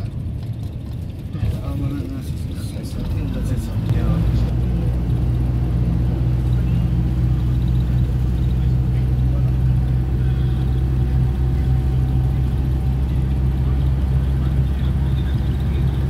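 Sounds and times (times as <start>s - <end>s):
road noise: 0.0s - 16.0s
vehicle engine drone: 0.0s - 16.0s.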